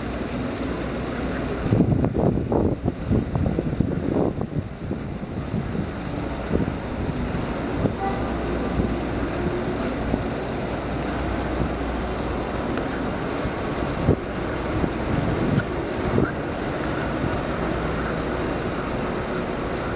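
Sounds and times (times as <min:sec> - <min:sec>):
low vehicle rumble: 0:00.0 - 0:19.9.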